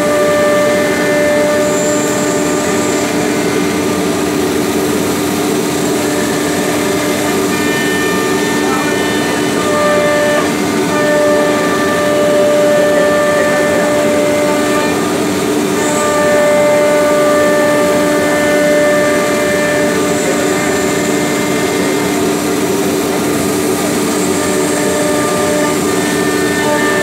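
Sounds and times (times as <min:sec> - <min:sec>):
router spindle whine: 0:00.0 - 0:27.0.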